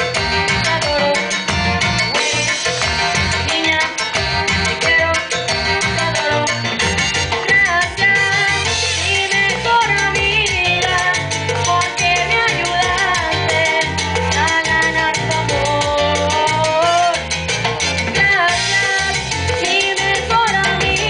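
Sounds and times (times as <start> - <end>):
salsa music: 0.0 - 21.0.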